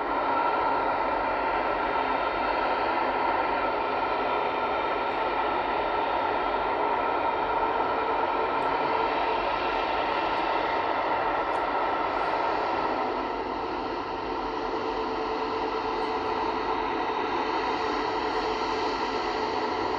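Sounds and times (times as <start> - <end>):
faint constant whine: 0.0 - 19.9.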